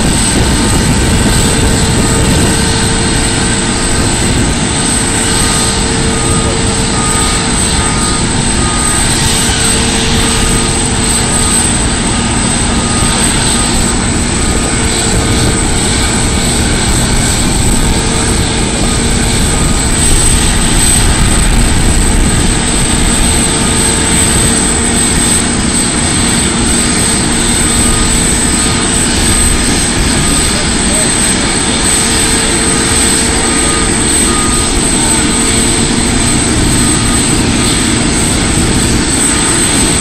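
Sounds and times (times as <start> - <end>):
jet engines rumbling with whine: 0.0 - 40.0.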